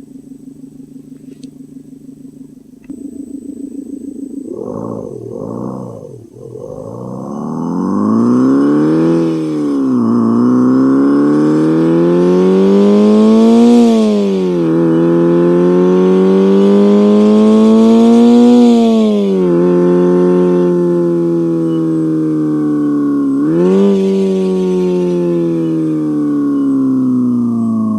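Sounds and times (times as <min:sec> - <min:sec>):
synthetic engine sound: 0:00.0 - 0:27.9.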